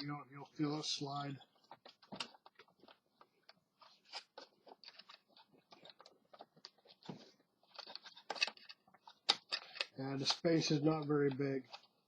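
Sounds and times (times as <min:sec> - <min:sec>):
faint plastic clicks and scrapes: 0:00.5 - 0:12.0.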